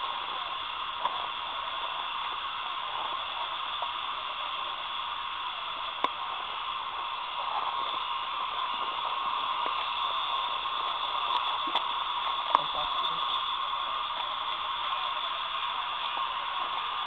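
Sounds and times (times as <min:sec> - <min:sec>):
night insect chorus chirring: 0:00.0 - 0:17.0.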